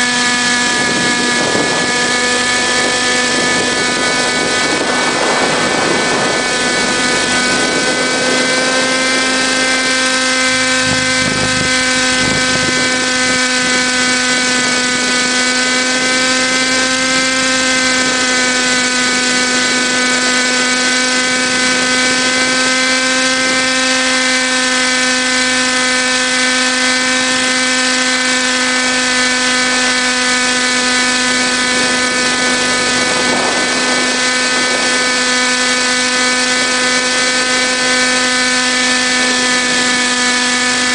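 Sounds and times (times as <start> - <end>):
helicopter rotor whine: 0.0 - 40.9.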